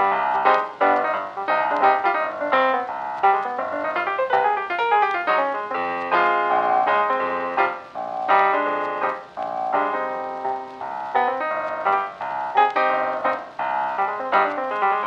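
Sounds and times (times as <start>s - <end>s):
instrumental piano music: 0.0s - 15.0s.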